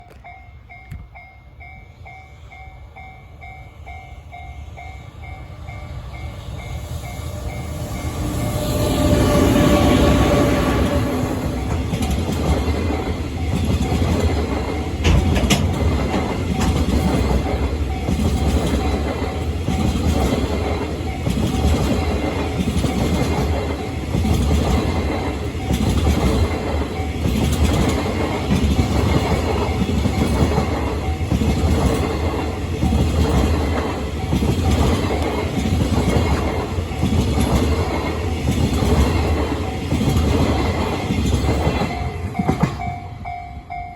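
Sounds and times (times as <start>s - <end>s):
freight train wheels clattering: 3.9s - 43.9s.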